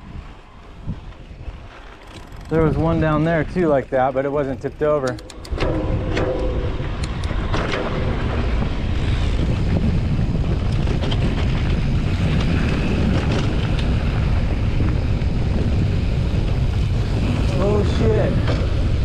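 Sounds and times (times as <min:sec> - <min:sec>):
bike tyres rolling over gravel: 0:00.0 - 0:05.1, 0:07.2 - 0:19.0
wind buffeting microphone: 0:00.0 - 0:19.0.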